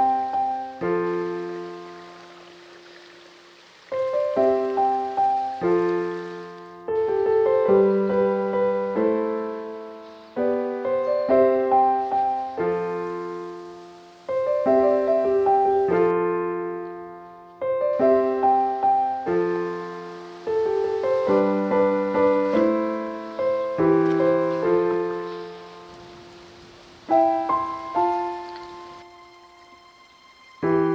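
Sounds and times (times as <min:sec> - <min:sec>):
gentle piano melody: 0:00.0 - 0:30.9.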